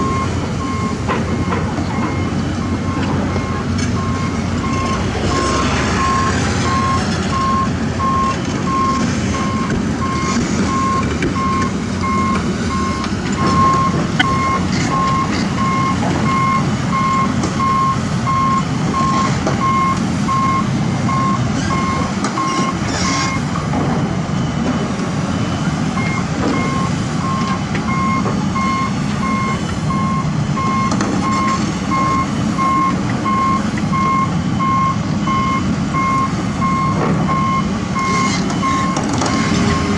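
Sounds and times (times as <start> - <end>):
diesel engine running: 0.0 - 39.9
reversing alarm beeping: 0.0 - 39.9.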